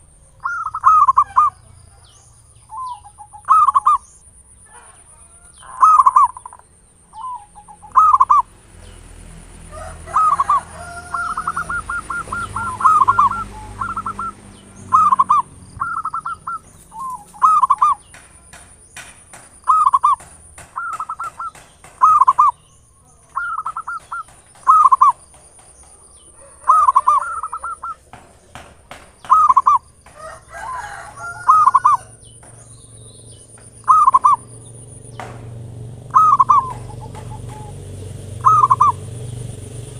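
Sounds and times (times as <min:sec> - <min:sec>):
dove cooing: 0:00.4 - 0:02.1, 0:02.7 - 0:04.0, 0:04.7 - 0:06.6, 0:07.2 - 0:08.5, 0:09.6 - 0:32.6, 0:33.5 - 0:39.6.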